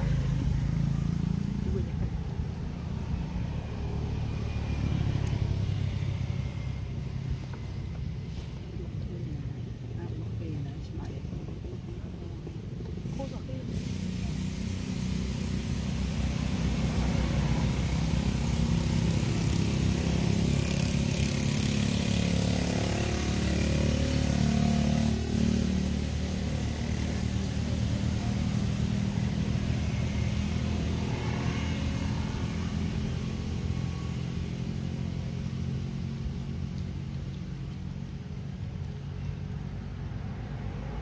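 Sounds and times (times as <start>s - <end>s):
engine running: 0.0s - 41.0s.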